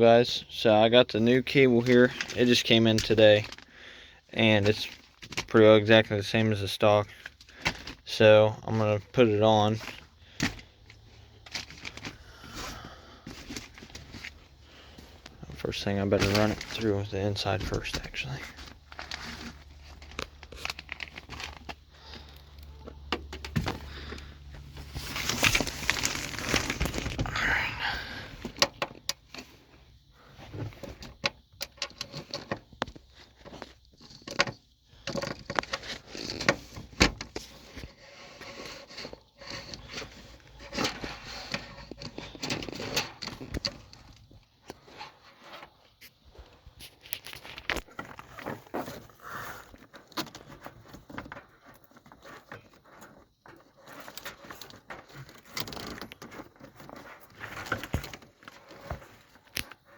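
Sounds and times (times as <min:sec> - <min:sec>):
cable clicks rattles and scrapes: 0:01.1 - 0:03.7, 0:04.4 - 0:27.3, 0:28.4 - 0:59.9.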